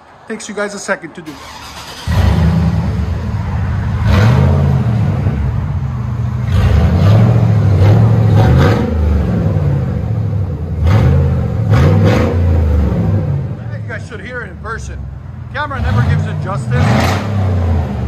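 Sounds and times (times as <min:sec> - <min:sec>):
loud engine revving: 0:01.4 - 0:13.7, 0:15.6 - 0:18.0.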